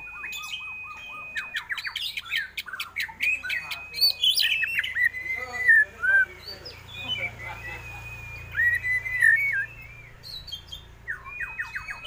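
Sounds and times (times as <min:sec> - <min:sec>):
songbird singing whistles and chirps: 0:00.0 - 0:12.0.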